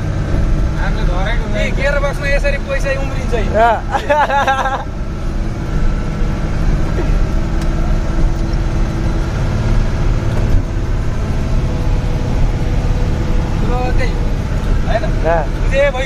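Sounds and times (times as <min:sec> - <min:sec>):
road rumble: 0:00.0 - 0:16.0
truck engine running: 0:00.0 - 0:16.0.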